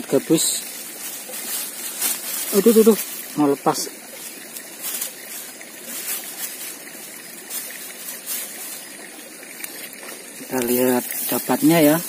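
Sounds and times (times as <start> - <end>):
stream trickling: 0.0 - 12.0.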